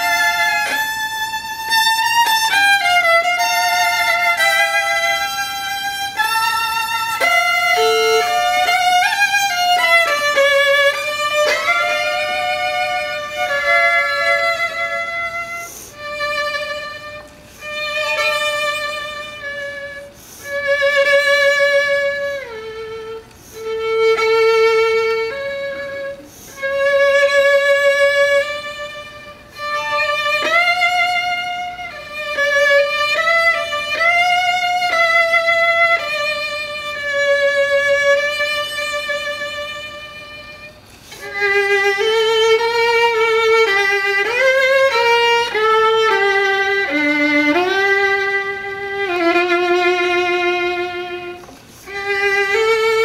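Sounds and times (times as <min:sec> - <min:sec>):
violin playing classical piece: 0:00.0 - 0:53.0.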